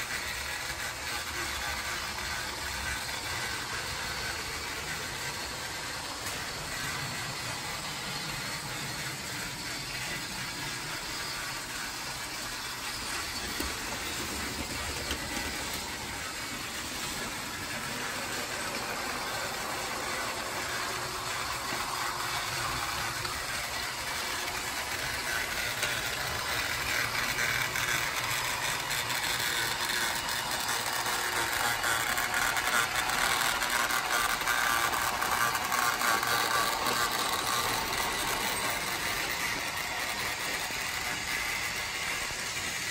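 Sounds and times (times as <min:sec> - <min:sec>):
toy train motor whirring: 0:00.0 - 0:42.9
wheels rattling over plastic track: 0:00.0 - 0:42.9.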